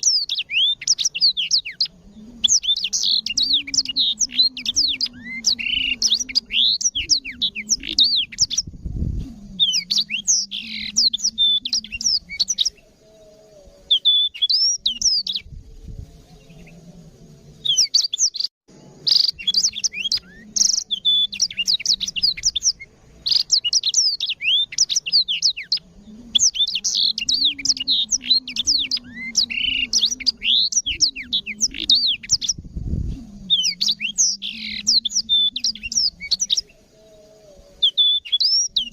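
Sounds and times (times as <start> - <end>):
canary twittering song: 0.0 - 8.8, 9.6 - 13.0, 13.9 - 15.6, 17.6 - 32.6, 33.5 - 36.8, 37.8 - 38.9.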